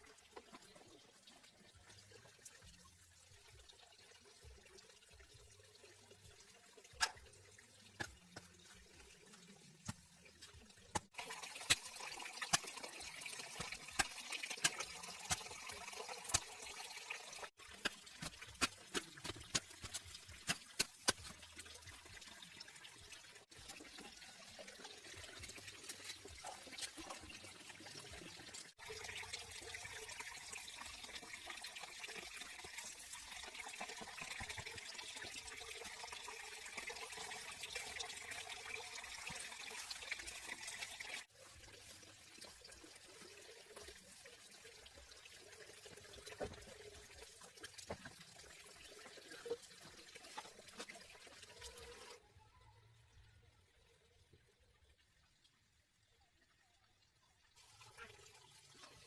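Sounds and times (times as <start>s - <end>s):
water trickling and pouring: 0.0s - 52.3s, 53.0s - 59.0s.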